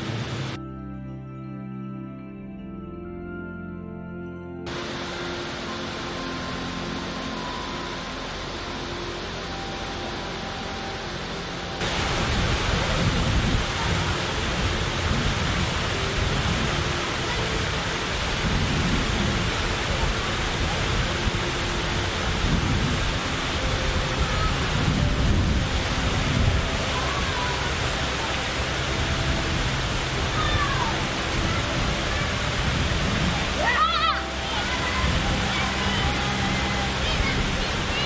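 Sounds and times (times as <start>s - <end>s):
fountain water splashing: 0.0s - 0.6s, 4.7s - 38.0s.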